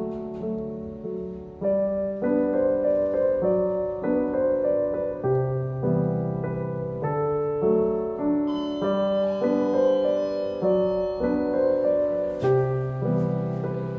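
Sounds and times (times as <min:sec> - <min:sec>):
gentle keyboard melody: 0:00.0 - 0:13.9.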